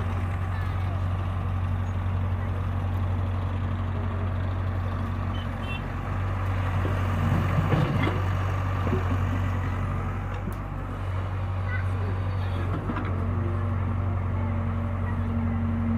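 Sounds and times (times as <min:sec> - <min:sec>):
diesel machinery humming: 0:00.0 - 0:15.9.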